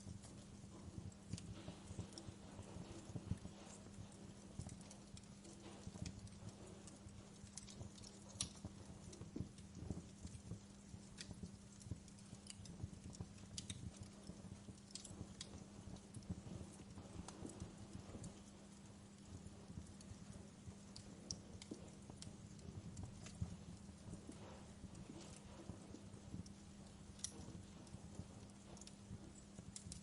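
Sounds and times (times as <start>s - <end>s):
low steady hum: 0.0s - 30.0s
wood fire crackling: 0.0s - 30.0s.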